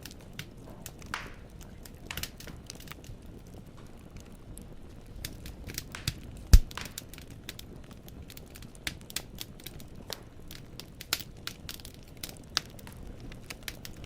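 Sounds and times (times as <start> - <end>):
firewood crackling and popping: 0.0 - 14.0
low rumble of flame: 0.0 - 14.0.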